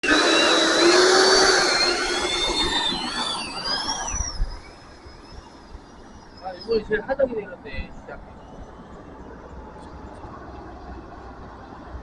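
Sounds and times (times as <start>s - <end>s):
electric ducted fan whining: 0.0s - 12.0s.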